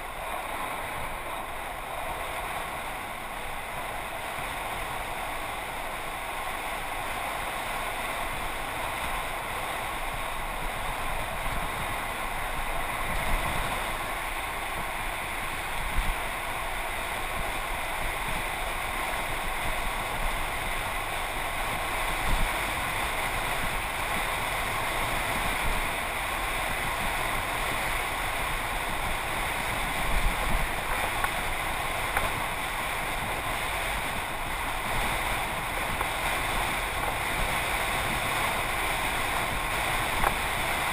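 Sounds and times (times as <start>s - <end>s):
bicycle tyre noise on asphalt: 0.0s - 40.9s
wind buffeting microphone: 0.0s - 40.9s.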